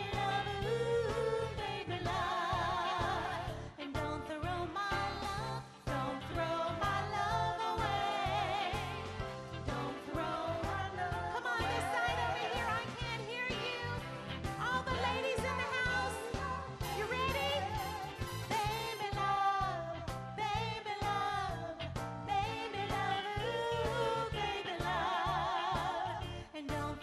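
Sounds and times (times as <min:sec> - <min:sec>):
drums: 0:00.0 - 0:27.0
keyboards: 0:00.0 - 0:27.0
women singing in harmony: 0:00.0 - 0:27.0.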